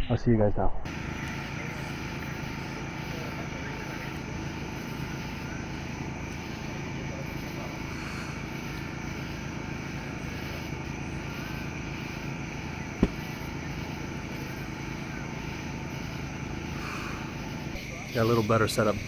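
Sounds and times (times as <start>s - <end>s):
motor droning: 0.9s - 17.9s.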